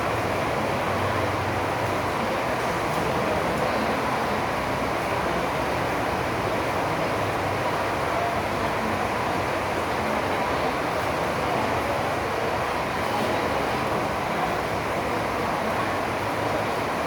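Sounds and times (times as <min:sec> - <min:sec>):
drizzling rain: 0:00.0 - 0:17.0.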